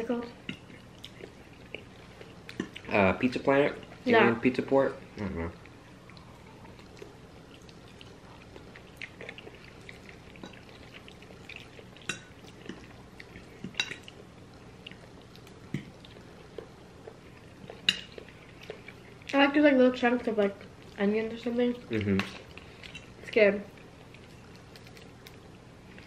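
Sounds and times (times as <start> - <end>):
wet chewing: 0.4 - 4.0, 5.0 - 19.4, 21.7 - 26.0.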